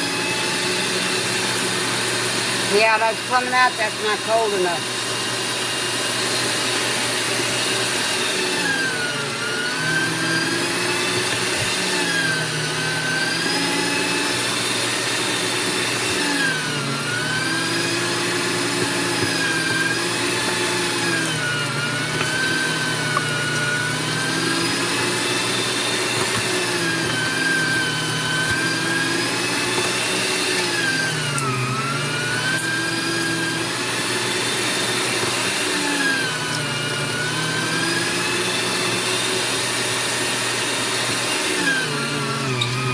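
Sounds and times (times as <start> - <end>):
meat grinder motor whining: 0.0 - 42.9.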